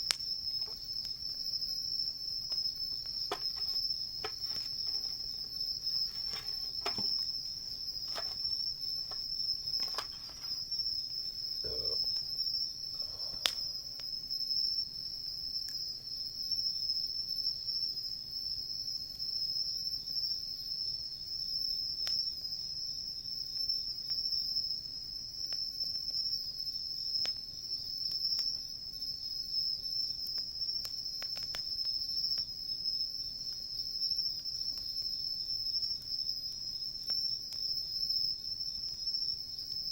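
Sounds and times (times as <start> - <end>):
campfire popping and crackling: 0.0 - 16.1, 23.6 - 39.9
crickets chirping: 0.0 - 39.9.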